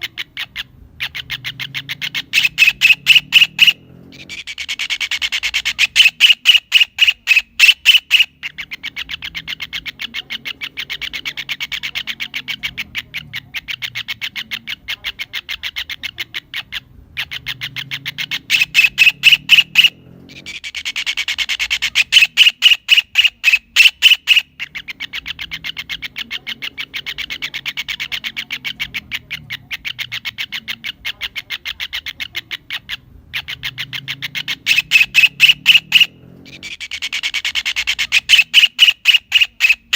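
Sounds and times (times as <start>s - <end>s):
kingfisher calling: 0.0s - 39.9s.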